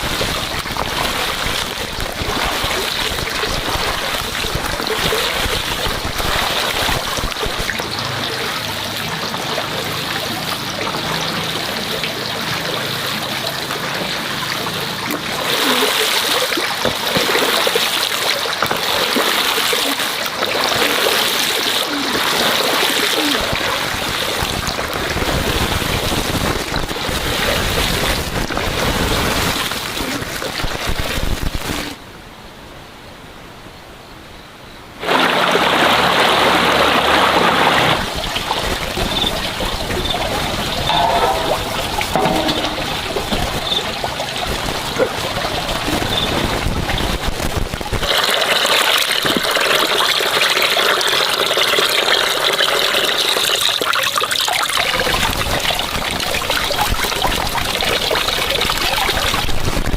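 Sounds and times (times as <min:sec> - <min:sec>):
water trickling and splashing: 0:00.0 - 0:32.0, 0:35.0 - 0:59.9.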